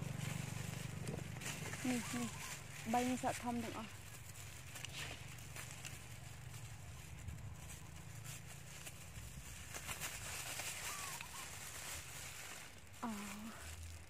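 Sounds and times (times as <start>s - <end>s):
bag and leaves rustling: 0.0s - 14.0s.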